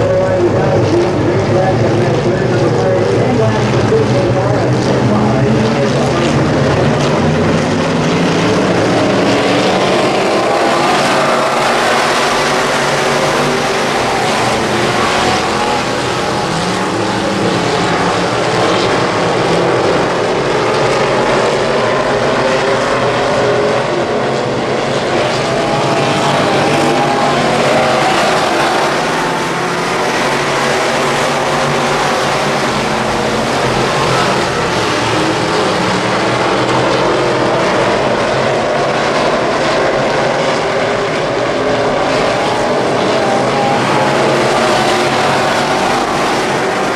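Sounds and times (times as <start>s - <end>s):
race car engines racing: 0.0s - 46.9s.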